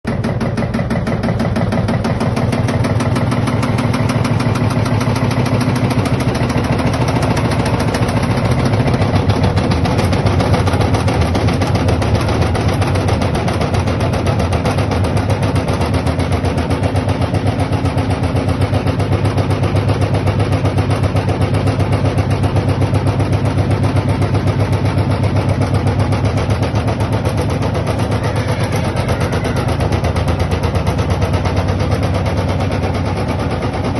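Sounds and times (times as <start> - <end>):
low hum: 0.1 - 33.9
washing machine rattling: 0.1 - 33.9.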